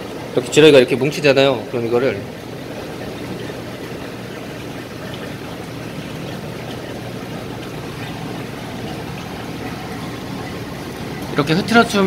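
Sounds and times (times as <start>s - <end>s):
aquarium filter humming: 0.0s - 12.0s
water washing: 0.0s - 12.0s.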